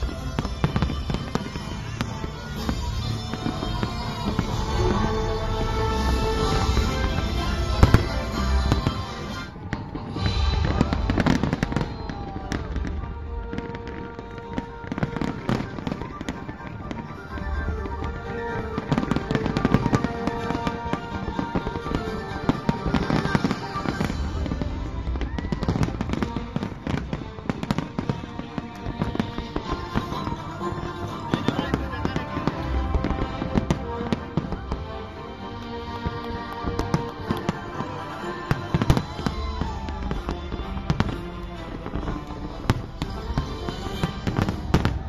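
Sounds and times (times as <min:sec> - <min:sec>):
fireworks bangs: 0:00.0 - 0:45.0
music playing: 0:00.0 - 0:45.0.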